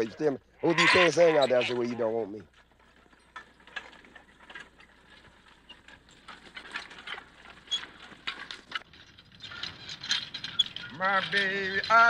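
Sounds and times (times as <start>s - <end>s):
harness clinking: 0.0s - 12.0s.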